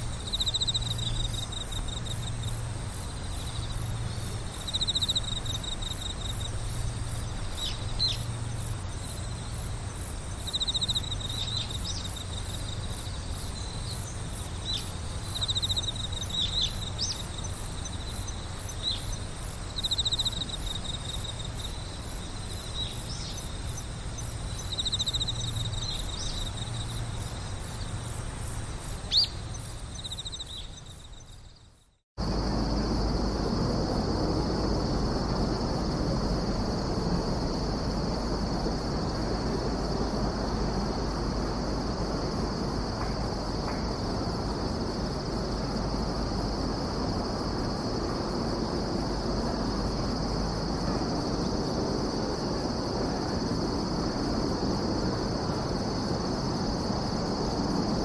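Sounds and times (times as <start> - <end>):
insects trilling chorus: 0.0 - 58.0.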